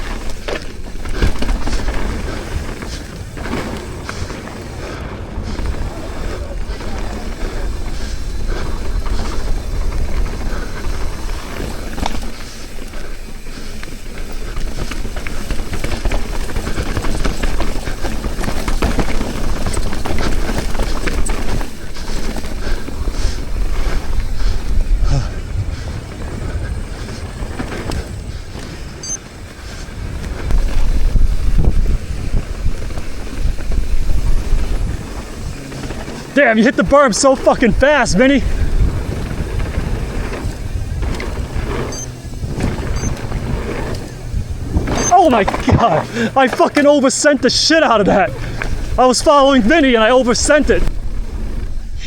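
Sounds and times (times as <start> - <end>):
bike rattling and clicking: 0.0 - 52.0
tyres rolling over dirt: 0.0 - 52.0
wind buffeting microphone: 0.0 - 52.0.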